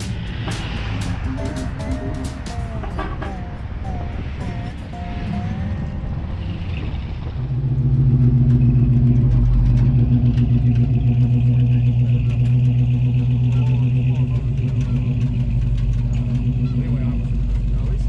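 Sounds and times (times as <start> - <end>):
pickup truck engine running: 0.0 - 18.0.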